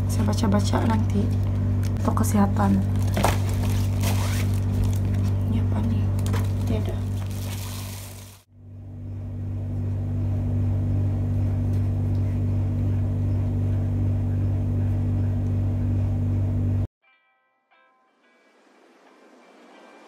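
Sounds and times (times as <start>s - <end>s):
low humming drone: 0.0s - 16.9s.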